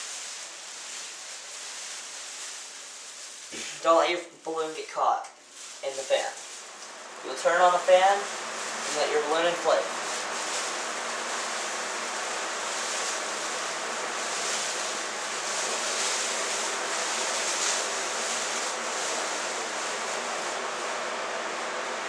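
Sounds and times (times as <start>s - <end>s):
electric fan blowing air: 0.0s - 22.0s.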